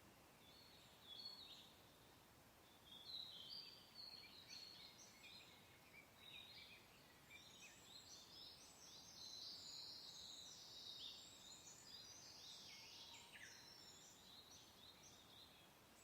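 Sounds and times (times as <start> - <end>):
faint birdsong chirping: 0.0 - 16.0
soft wind hiss: 0.0 - 16.0.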